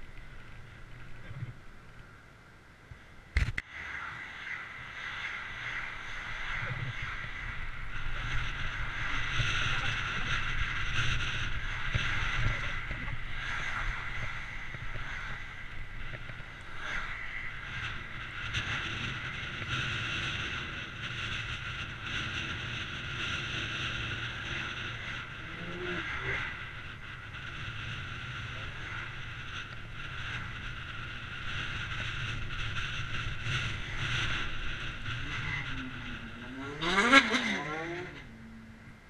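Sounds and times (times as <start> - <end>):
bicycle tyres rolling on tarmac: 0.0 - 39.0.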